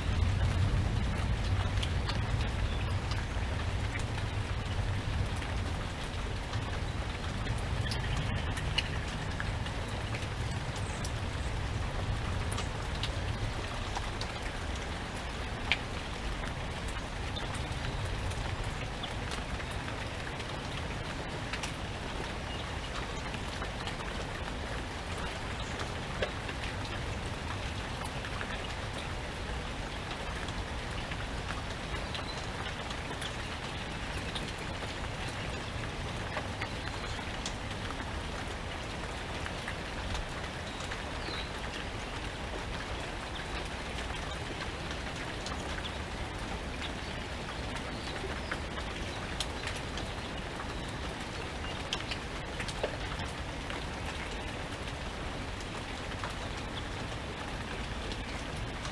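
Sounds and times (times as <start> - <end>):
low wind rumble: 0.0 - 58.9
steady rain: 0.0 - 58.9.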